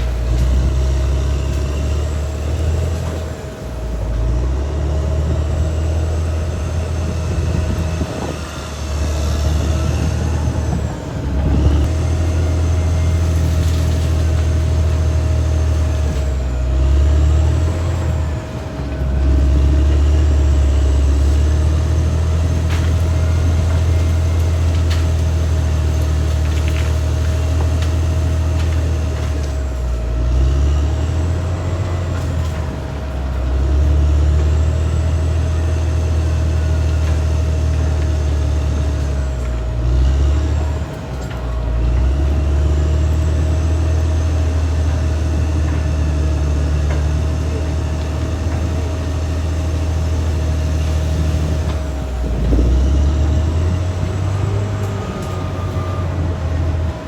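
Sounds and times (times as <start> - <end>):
bulldozer diesel engine running hard: 0.0 - 57.0.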